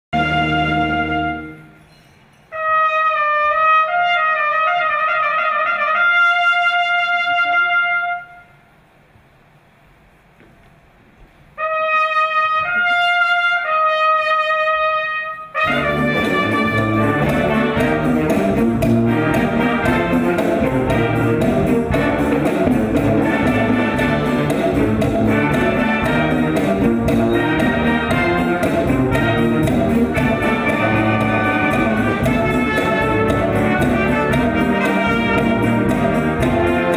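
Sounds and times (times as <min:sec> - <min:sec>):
full ensemble music: 0:00.0 - 0:09.0, 0:11.4 - 0:36.9
solo trumpet: 0:00.1 - 0:01.9, 0:02.5 - 0:08.8, 0:11.6 - 0:36.9.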